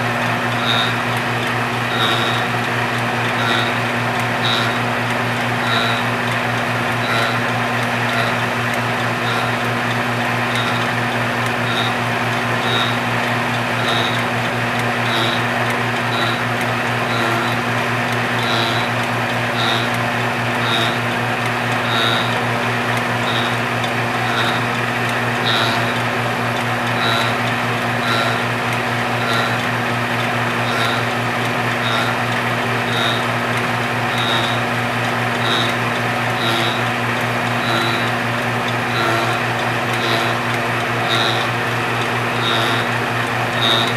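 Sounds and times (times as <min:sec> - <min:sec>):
lathe humming: 0:00.0 - 0:43.9.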